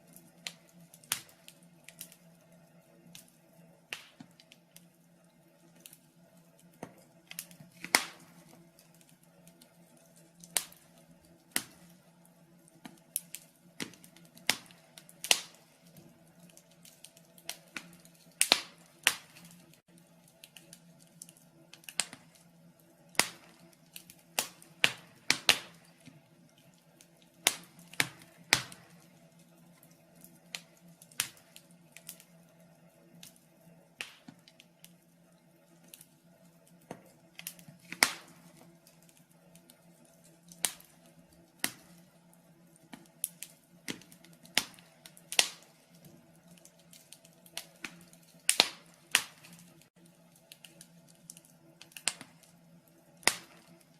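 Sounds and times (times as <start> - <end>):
faint steady hum: 0.0 - 53.9
wood fire crackling and popping: 0.0 - 53.9.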